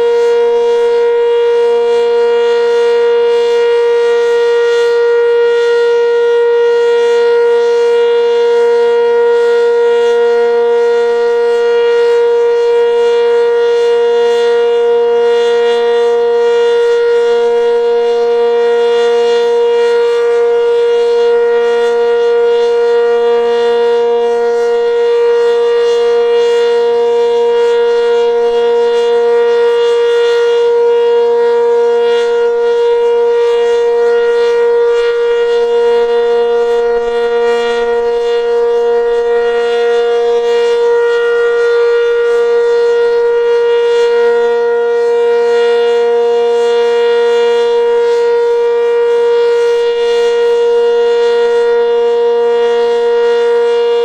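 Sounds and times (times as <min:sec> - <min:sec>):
warning siren steady tone: 0:00.0 - 0:54.0.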